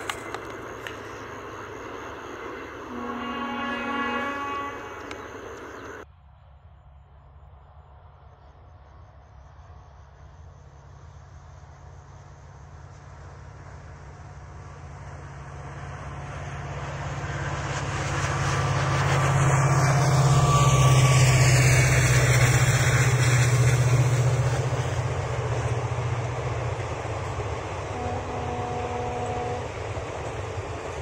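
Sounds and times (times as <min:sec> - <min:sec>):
train coaches running on rails: 0:00.0 - 0:06.1, 0:08.3 - 0:31.0
diesel locomotive engine drone: 0:00.0 - 0:31.0.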